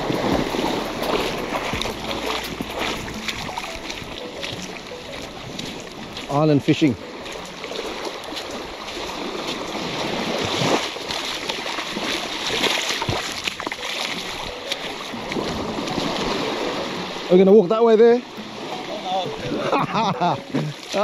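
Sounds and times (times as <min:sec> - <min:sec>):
seawater sloshing and splashing: 0:00.0 - 0:21.0.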